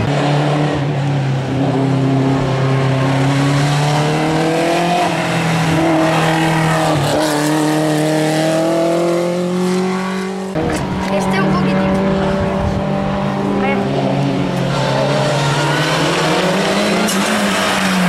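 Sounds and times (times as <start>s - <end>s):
car engine revving uphill: 0.0s - 18.0s.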